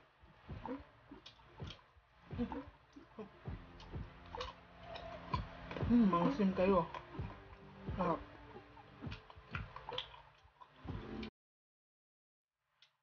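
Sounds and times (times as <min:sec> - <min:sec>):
wet chewing with mouth smacks: 0:00.5 - 0:11.3.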